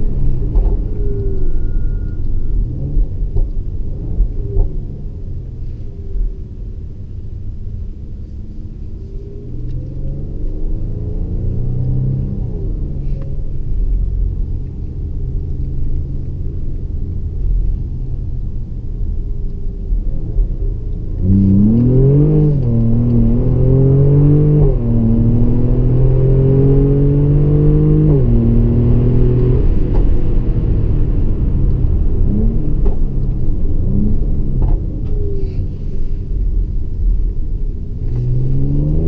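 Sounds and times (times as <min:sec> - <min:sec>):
car engine accelerating and upshifting: 0:00.0 - 0:18.4, 0:19.0 - 0:39.0.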